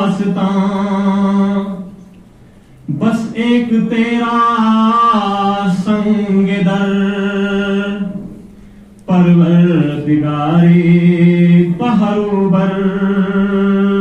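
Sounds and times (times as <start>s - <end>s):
man singing unaccompanied: 0.0s - 2.1s, 2.8s - 14.0s.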